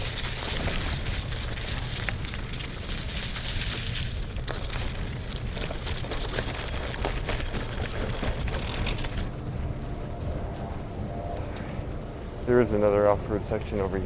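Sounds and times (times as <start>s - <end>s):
bicycle clicks and rattles: 0.0s - 14.0s
faint steady hum: 0.0s - 14.0s
wind rumbling on microphone: 0.0s - 14.0s.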